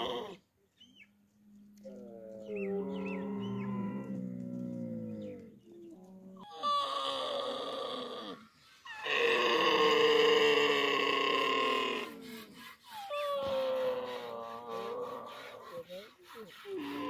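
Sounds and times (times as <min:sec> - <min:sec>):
camel moaning call: 0:01.7 - 0:12.5, 0:13.1 - 0:17.0.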